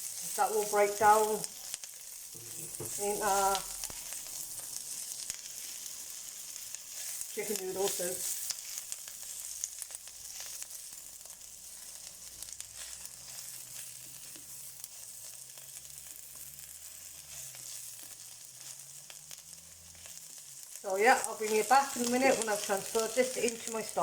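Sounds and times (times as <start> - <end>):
onion and garlic sizzling in pan: 0.0 - 24.0.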